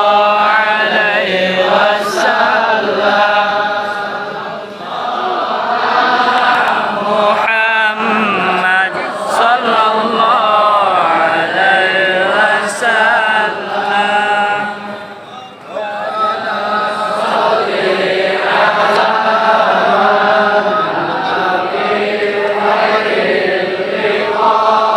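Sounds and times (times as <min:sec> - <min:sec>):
chorus of voices chanting: 0:00.0 - 0:24.9.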